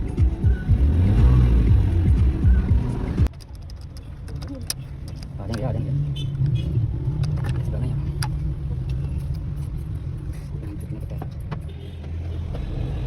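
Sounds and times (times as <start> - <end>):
car engine idling: 0.0 - 11.7.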